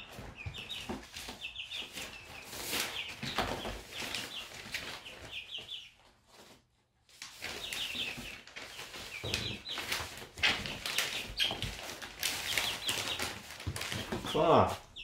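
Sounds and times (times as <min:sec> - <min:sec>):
chicks peeping: 0:00.0 - 0:15.0
scuffling and rustling: 0:00.0 - 0:15.0.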